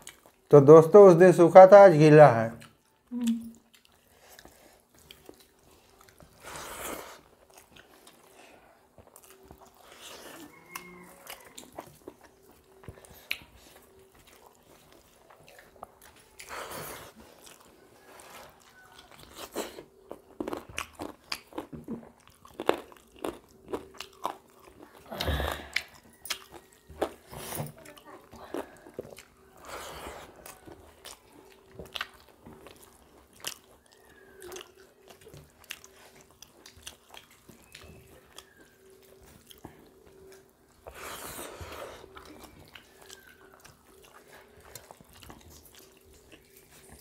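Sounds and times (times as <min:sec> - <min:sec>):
chewing and lip-smacking: 0:00.0 - 0:00.5, 0:02.4 - 0:47.0.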